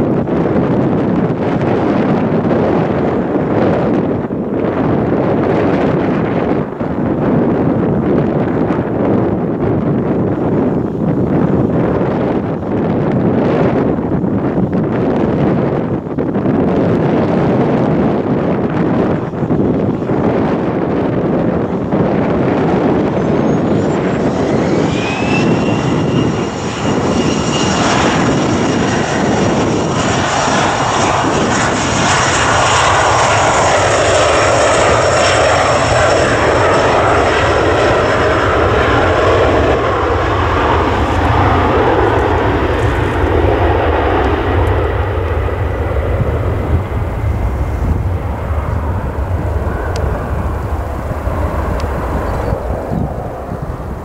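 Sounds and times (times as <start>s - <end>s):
jet engines spooling up with whine: 0.0s - 54.0s
loud rushing jet noise: 0.0s - 54.0s.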